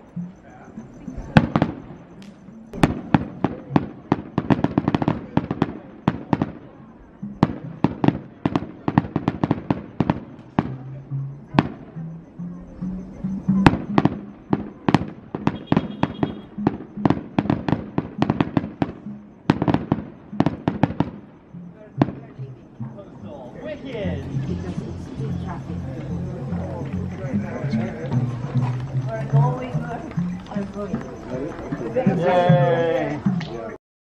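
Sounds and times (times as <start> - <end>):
low held notes: 0.0 - 33.8
fireworks bangs and crackles: 0.8 - 22.5, 23.9 - 33.7.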